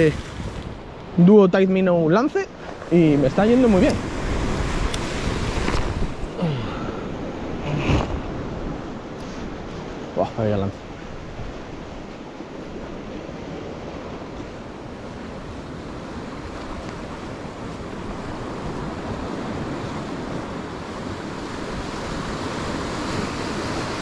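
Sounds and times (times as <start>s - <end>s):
sea surf breaking on rocks: 0.0s - 24.0s.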